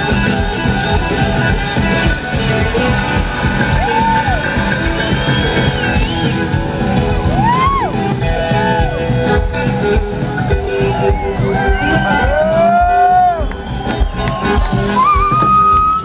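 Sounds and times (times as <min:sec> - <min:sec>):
blues-rock band playing: 0:00.0 - 0:16.0
slide guitar swooping: 0:00.0 - 0:16.0.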